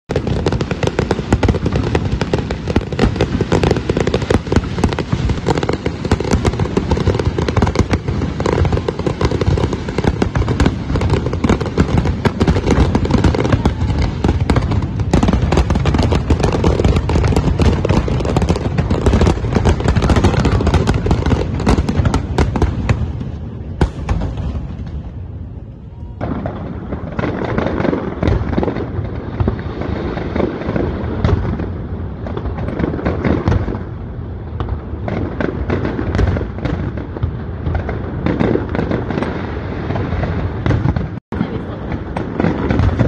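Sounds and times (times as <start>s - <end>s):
fireworks crackling: 0.0s - 43.0s
fireworks bangs: 0.1s - 43.0s.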